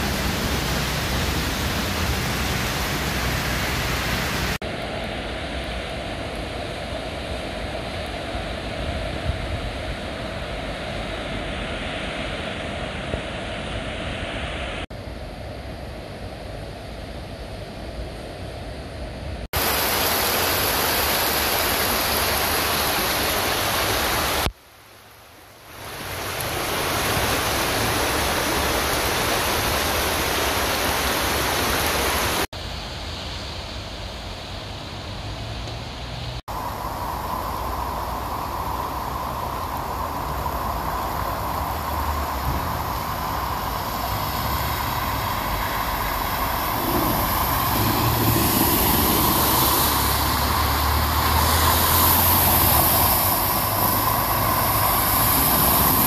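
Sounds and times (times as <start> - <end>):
heavy rain hissing: 0.0 - 9.2, 19.5 - 56.0.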